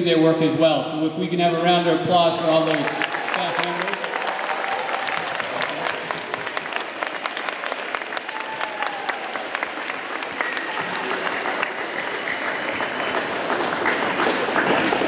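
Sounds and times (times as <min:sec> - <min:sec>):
children applauding: 0:02.4 - 0:15.0.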